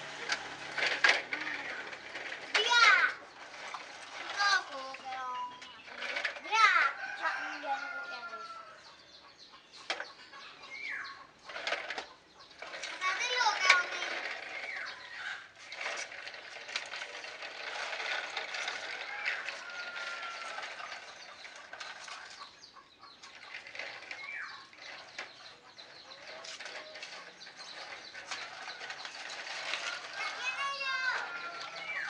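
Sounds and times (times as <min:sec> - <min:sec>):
bird calls: 0:01.4 - 0:17.4, 0:18.9 - 0:32.0.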